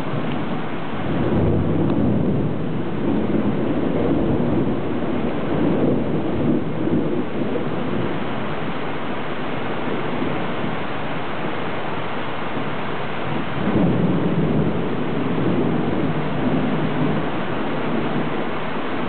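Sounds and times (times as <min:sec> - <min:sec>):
rain hissing: 0:00.0 - 0:19.0
thunder rumbling: 0:00.0 - 0:19.0.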